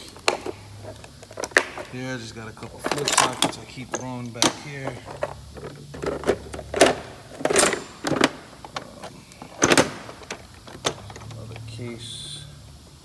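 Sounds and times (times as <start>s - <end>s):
sockets clattering in metal drawer: 0.0s - 11.6s
steady low hum: 0.0s - 13.0s.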